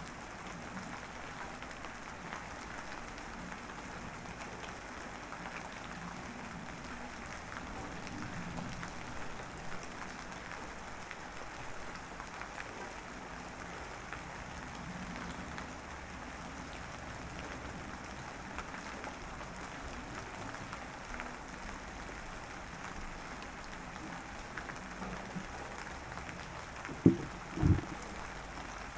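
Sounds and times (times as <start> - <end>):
light drizzle pattering: 0.0 - 28.9.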